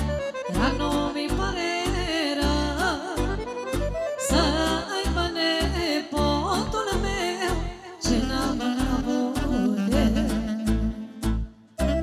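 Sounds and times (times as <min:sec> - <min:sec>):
live folk band music: 0:00.0 - 0:12.0.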